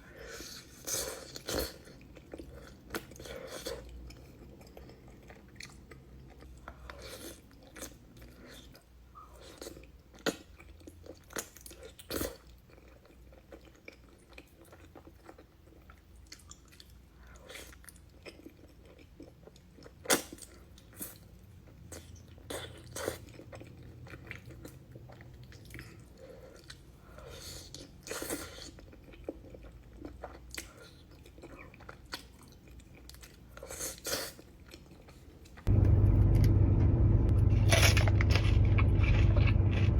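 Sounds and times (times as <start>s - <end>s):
chewing and biting food: 0.2s - 35.7s, 37.5s - 39.9s.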